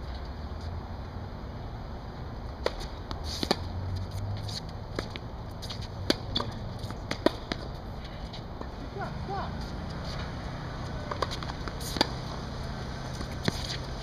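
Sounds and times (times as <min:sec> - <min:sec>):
tennis balls struck and bouncing: 0:02.4 - 0:14.0.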